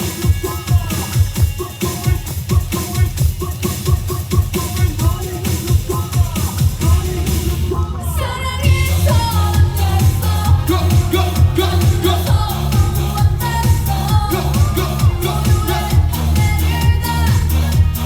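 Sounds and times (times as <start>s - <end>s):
dance-pop backing track: 0.0s - 18.0s
person singing over pa: 0.0s - 18.0s.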